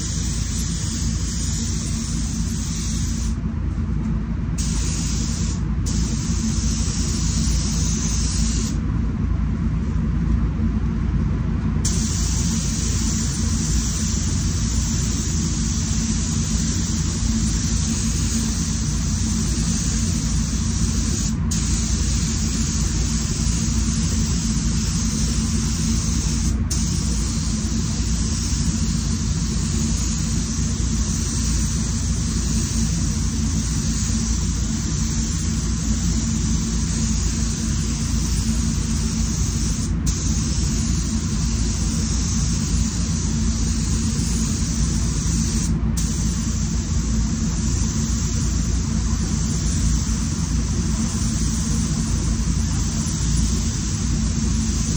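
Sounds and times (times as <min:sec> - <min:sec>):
spray gun hissing: 0:00.0 - 0:03.4, 0:04.6 - 0:08.8, 0:11.9 - 0:54.9
low airflow rumble: 0:00.0 - 0:54.9.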